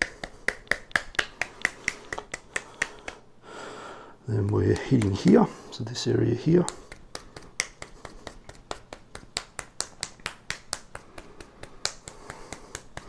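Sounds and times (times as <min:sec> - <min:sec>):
fingertips tapping on forearm: 0:00.0 - 0:03.2, 0:04.3 - 0:05.6, 0:06.4 - 0:13.0.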